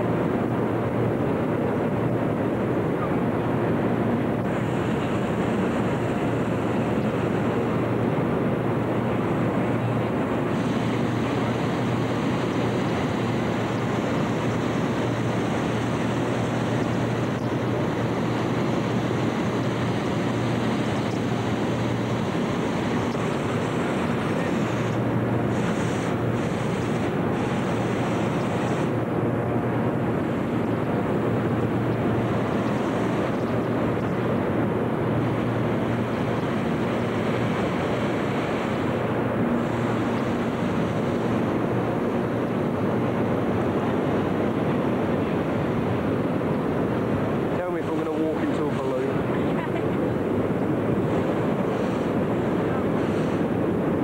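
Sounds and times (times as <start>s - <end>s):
inflator fans running: 0.0s - 54.0s.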